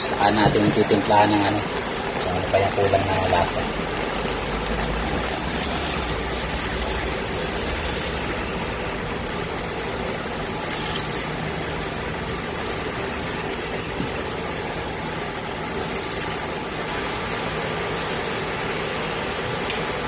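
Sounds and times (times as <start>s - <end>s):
water pouring into a pot: 0.0s - 20.0s.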